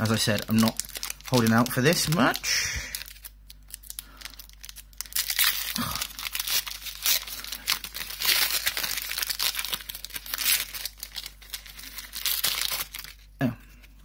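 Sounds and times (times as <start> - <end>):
foil wrapper crinkling and tearing: 0.0 - 13.4.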